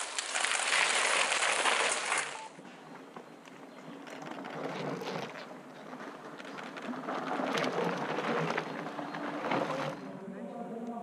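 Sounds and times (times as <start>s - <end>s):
bike tyres rolling over dirt: 0.0s - 10.3s.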